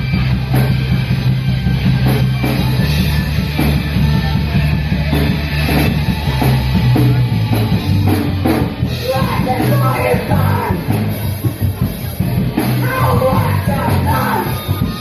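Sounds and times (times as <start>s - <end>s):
rock band playing loudly: 0.0s - 15.0s.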